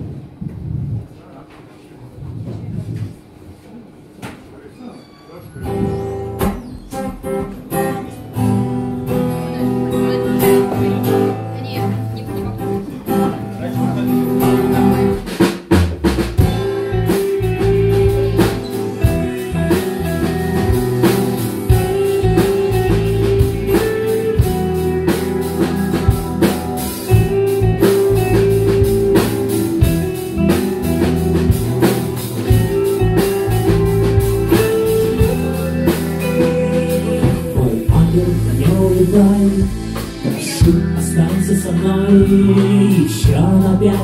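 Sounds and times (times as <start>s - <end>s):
strummed acoustic guitar: 5.6s - 44.0s
drum kit beat: 5.7s - 13.3s, 14.0s - 44.0s.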